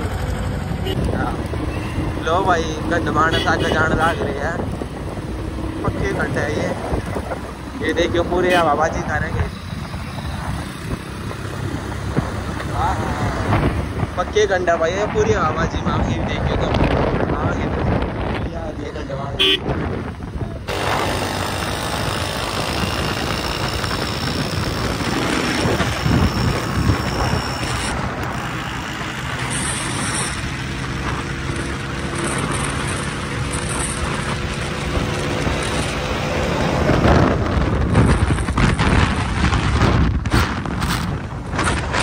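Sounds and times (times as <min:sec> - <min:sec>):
motorcycle riding: 0:00.0 - 0:42.0.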